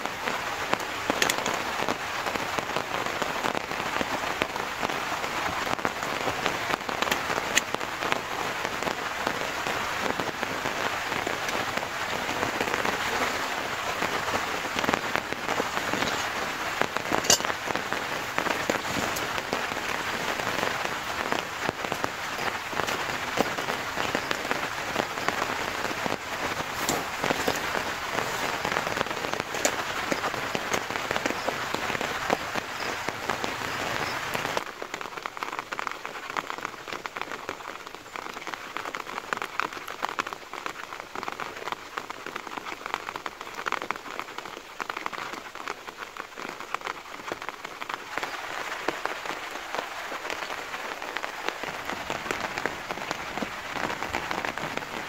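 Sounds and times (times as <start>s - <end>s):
rain pattering on a tent: 0.0s - 55.0s.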